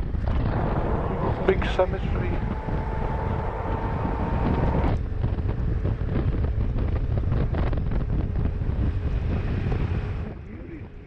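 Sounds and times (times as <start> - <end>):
road and engine rumble: 0.0 - 11.0
wind buffeting microphone: 0.0 - 11.0.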